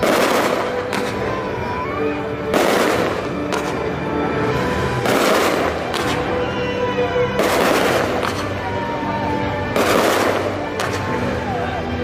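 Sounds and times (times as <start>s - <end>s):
fireworks bursting: 0.0s - 11.4s
music playing: 0.0s - 12.0s.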